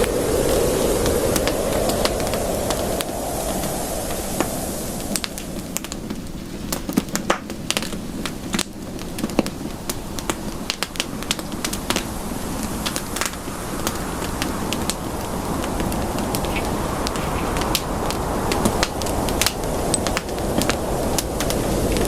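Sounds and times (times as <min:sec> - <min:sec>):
burning wood popping: 0:00.0 - 0:22.0
campfire crackling: 0:00.0 - 0:22.0.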